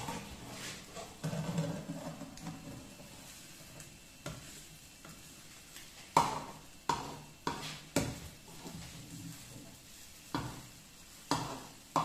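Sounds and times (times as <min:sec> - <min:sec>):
omelette sizzling in oil: 0:00.0 - 0:12.0
spatula scraping frying pan: 0:00.0 - 0:12.0.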